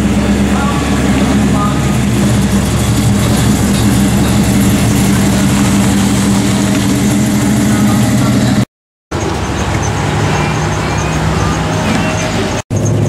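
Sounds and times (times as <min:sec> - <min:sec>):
car engines deep exhaust rumble: 0:00.0 - 0:13.0.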